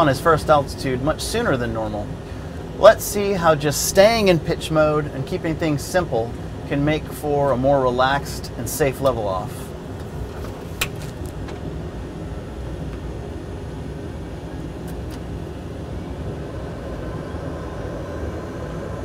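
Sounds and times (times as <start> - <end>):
faint engine whine: 0.0 - 19.0
jet engine rumble: 0.0 - 19.0.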